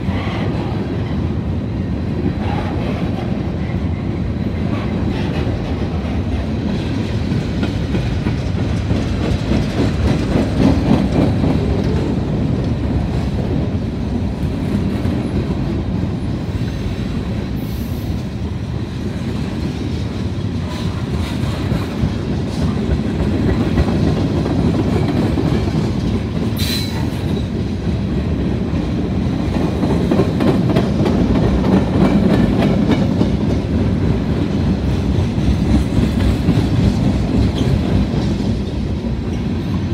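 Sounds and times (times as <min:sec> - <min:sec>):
freight train wheels on rails: 0:00.0 - 0:39.9.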